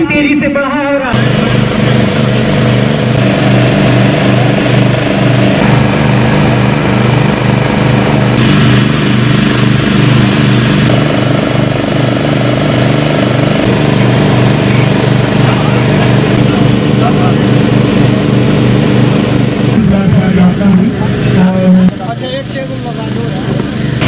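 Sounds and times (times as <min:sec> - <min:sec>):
engine running: 0:01.1 - 0:24.0.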